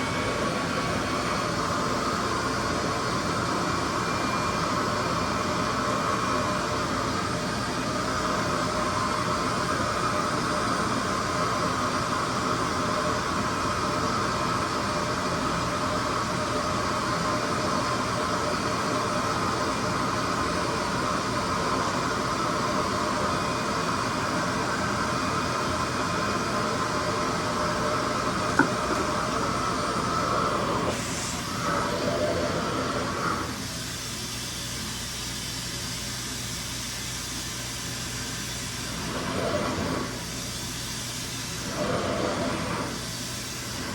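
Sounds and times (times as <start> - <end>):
hair dryer whooshing with hum: 0.0 - 43.9.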